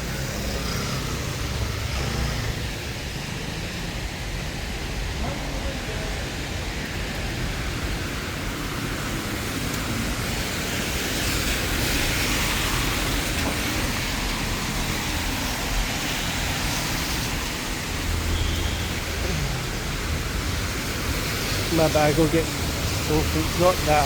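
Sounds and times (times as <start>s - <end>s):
rain hissing on street: 0.0s - 24.0s.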